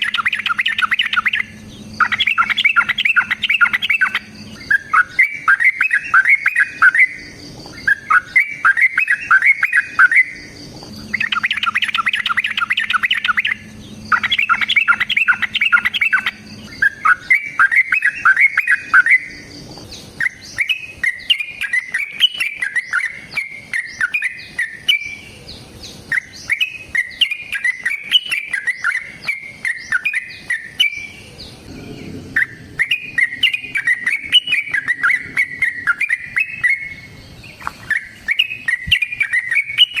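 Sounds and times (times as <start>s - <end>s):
bird chattering song: 0.0s - 40.0s.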